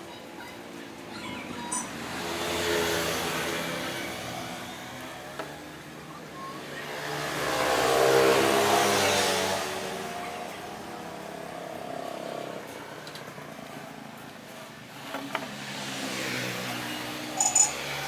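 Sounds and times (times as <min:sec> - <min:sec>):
motor vehicle passing by: 0:01.1 - 0:18.0.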